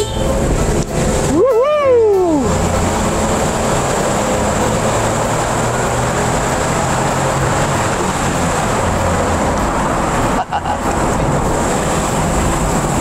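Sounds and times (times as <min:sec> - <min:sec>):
car engine under full throttle: 0:00.0 - 0:13.0
tyre and road noise: 0:00.0 - 0:13.0.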